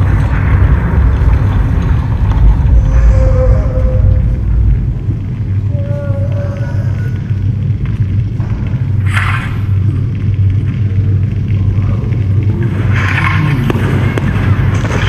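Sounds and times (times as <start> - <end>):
deep bass rumble: 0.0 - 15.0.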